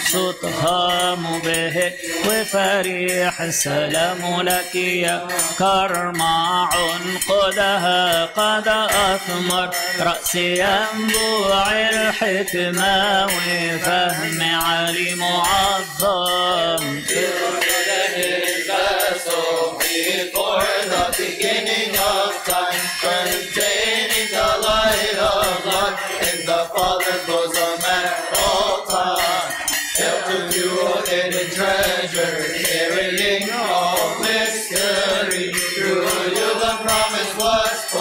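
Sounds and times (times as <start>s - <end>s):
voices chanting a hymn: 0.0s - 38.0s.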